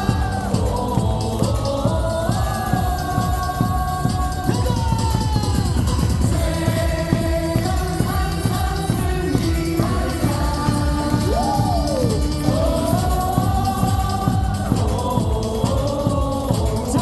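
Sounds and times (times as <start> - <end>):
amplified music with drum beat: 0.0 - 17.0
stadium crowd singing in unison: 0.0 - 17.0.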